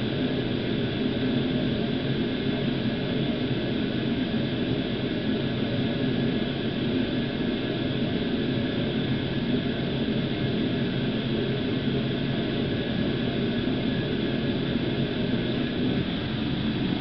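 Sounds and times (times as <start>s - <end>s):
mechanical drone with low hum: 0.0s - 17.0s.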